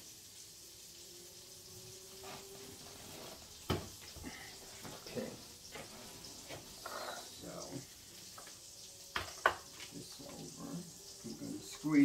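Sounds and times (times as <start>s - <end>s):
skillet sizzling faintly: 0.0s - 12.0s.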